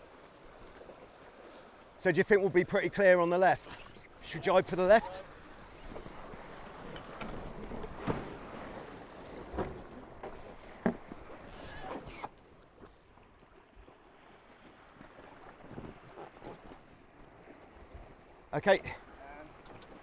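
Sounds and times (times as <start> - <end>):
water and wind rushing: 0.0 - 20.0.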